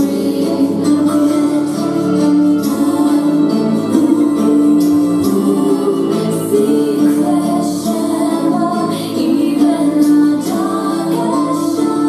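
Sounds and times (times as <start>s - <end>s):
pop song with female singer: 0.0s - 12.0s.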